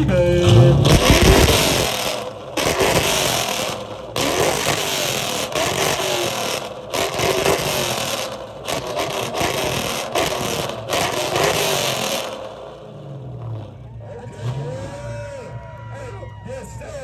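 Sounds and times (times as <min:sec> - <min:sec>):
car engine revving hard: 0:00.0 - 0:15.7.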